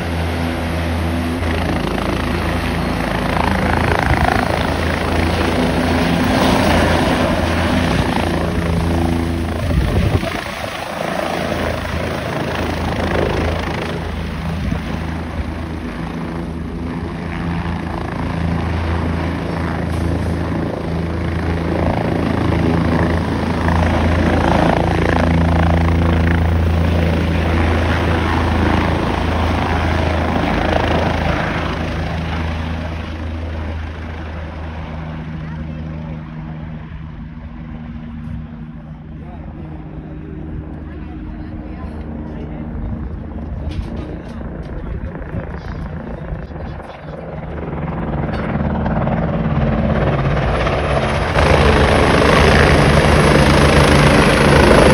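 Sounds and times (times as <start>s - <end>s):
helicopter rotor and engine noise: 0.0s - 54.9s.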